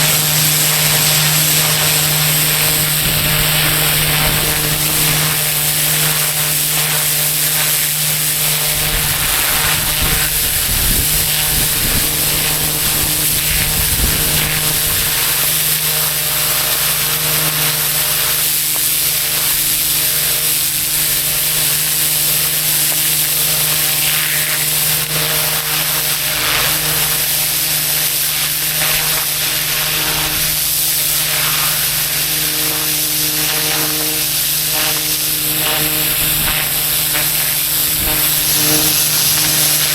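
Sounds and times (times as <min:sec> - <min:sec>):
high-pressure water spraying: 0:00.0 - 0:39.9
pump engine hum: 0:00.0 - 0:39.9.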